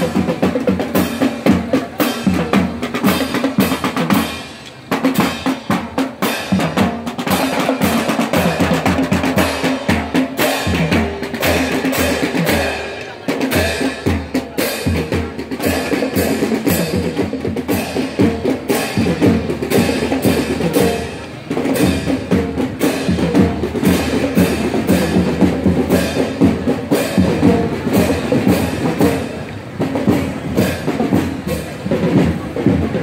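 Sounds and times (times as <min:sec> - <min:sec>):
drums and percussion beat: 0:00.0 - 0:33.0.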